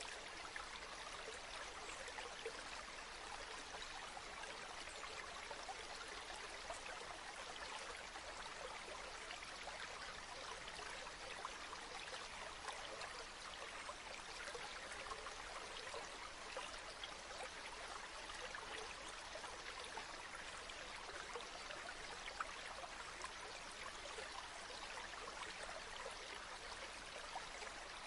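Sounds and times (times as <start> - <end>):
river water babbling: 0.0 - 28.0.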